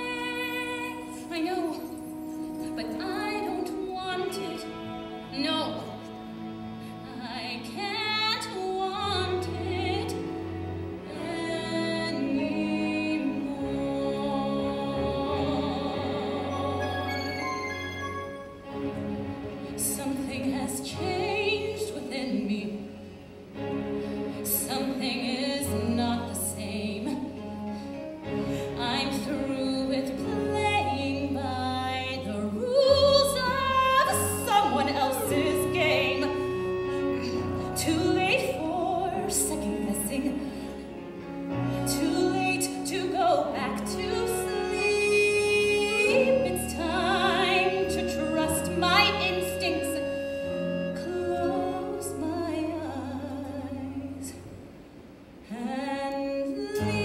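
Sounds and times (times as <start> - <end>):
pit orchestra playing: 0.0 - 53.5.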